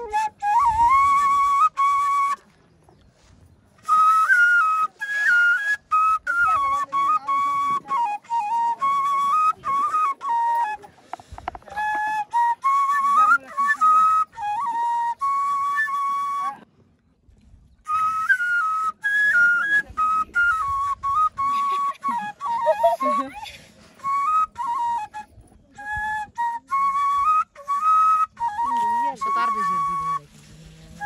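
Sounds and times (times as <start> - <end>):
solo flute melody: 0.0 - 31.0.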